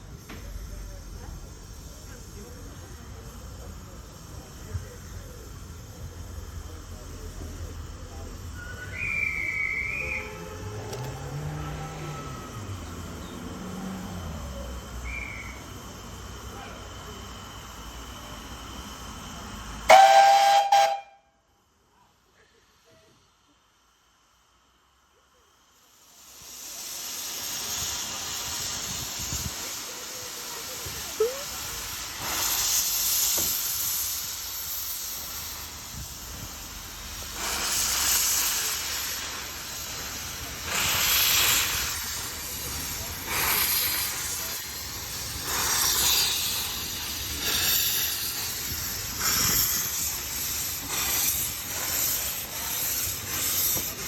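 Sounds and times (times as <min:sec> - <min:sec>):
locomotive exhaust bursts: 0:00.0 - 0:21.4, 0:25.6 - 0:54.0
steam locomotive hissing steam: 0:00.0 - 0:54.0.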